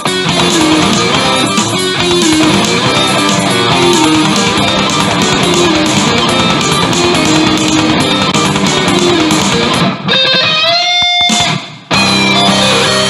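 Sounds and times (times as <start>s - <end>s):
guitar background music: 0.0s - 13.0s.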